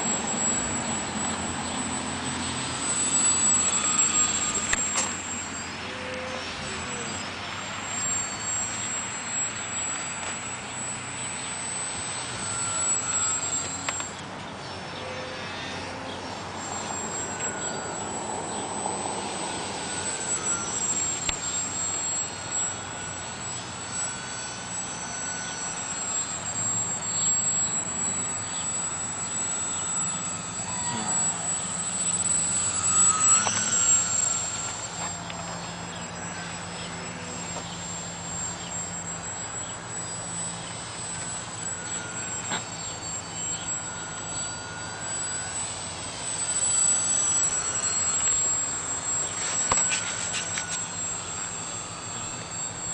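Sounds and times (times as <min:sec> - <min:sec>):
model plane motor whine: 0:00.0 - 0:52.9.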